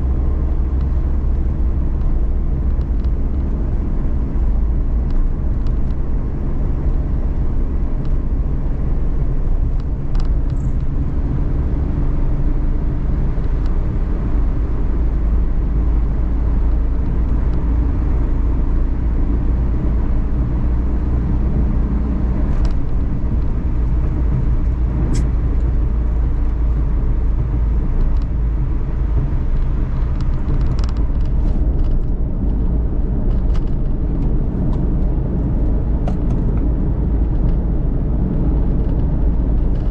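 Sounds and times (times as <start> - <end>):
engine and road drone: 0.0 - 39.9.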